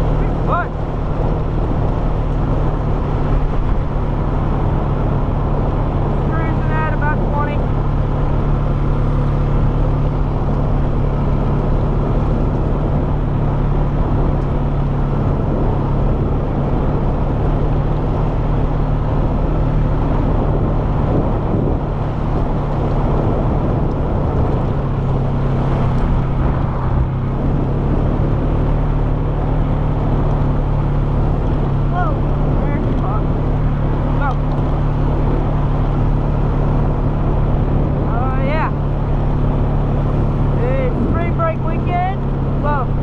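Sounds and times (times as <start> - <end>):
atv engine running steadily: 0.0 - 43.0.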